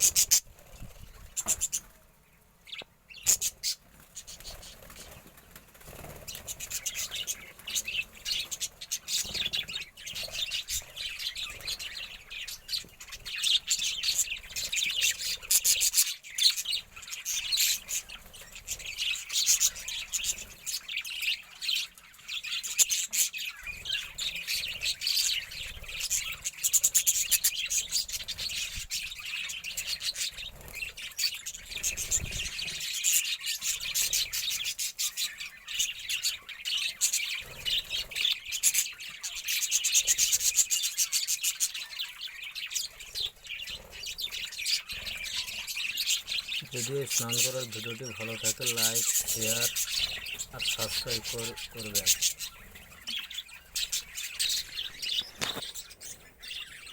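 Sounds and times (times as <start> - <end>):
bird squawks: 0.0 - 0.5, 1.2 - 2.0, 2.7 - 5.2, 5.9 - 56.9
budgerigars chirping and chattering: 0.0 - 56.9.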